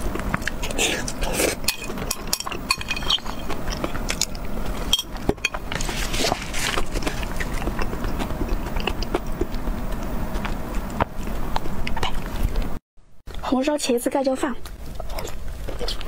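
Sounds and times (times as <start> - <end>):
close-miked chewing: 0.0 - 12.8, 14.6 - 16.0.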